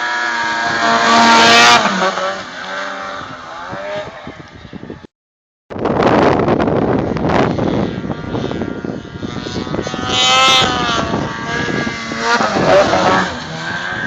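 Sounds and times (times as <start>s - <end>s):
snowmobile engine revving: 0.0s - 4.4s, 7.0s - 14.0s.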